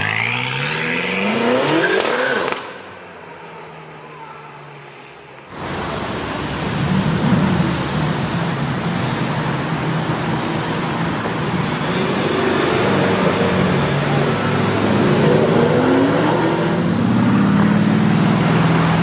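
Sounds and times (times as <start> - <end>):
road and traffic noise: 0.0 - 19.0.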